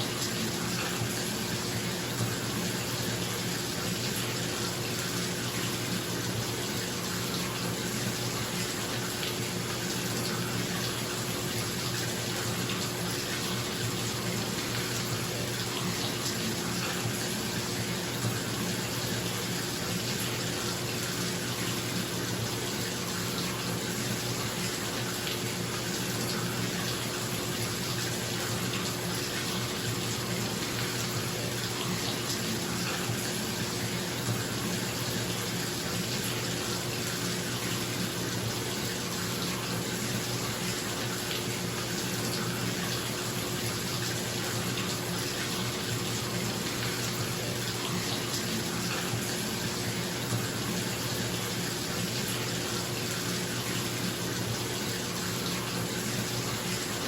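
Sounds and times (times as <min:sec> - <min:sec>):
tap running into bathtub: 0:06.7 - 0:56.9.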